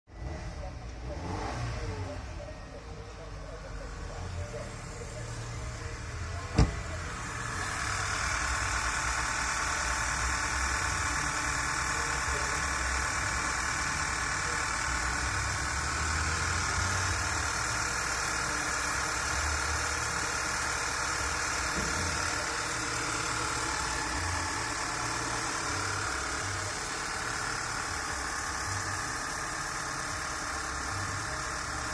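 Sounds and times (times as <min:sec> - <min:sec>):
engine idling: 0:00.1 - 0:31.9.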